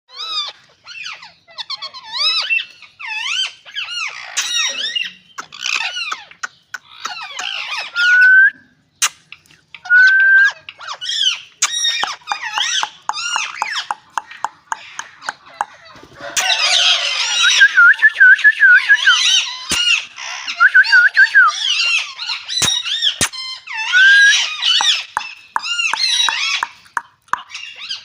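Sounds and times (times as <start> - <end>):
parrots squawking and chattering: 0.1 - 28.0.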